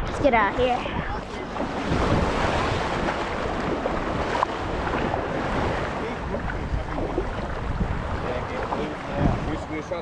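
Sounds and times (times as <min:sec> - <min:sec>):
small waves lapping: 0:00.0 - 0:10.0
wind buffeting microphone: 0:00.0 - 0:10.0.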